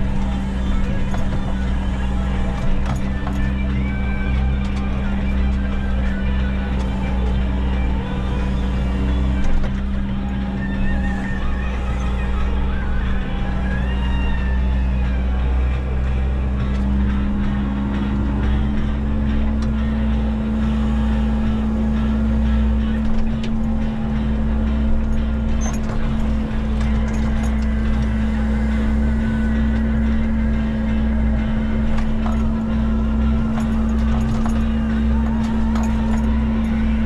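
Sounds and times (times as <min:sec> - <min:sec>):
excavator diesel engine droning: 0:00.0 - 0:37.0.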